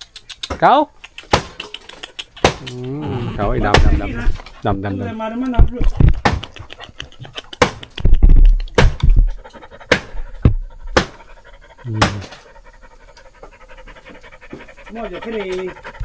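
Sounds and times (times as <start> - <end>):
dog panting: 1.0 - 2.8, 3.4 - 16.0.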